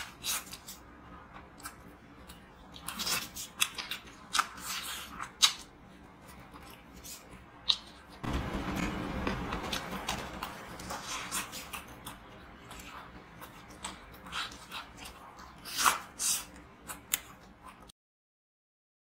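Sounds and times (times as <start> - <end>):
biting and chewing chicken: 0.0 - 17.9.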